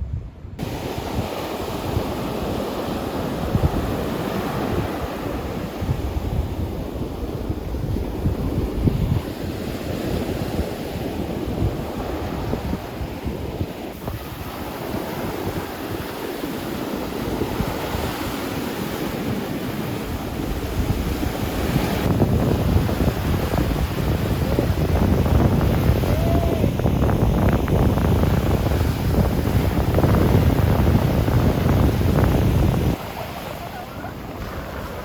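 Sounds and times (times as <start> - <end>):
wind gusting across microphone: 0.0 - 35.0
sea surf: 0.6 - 35.0.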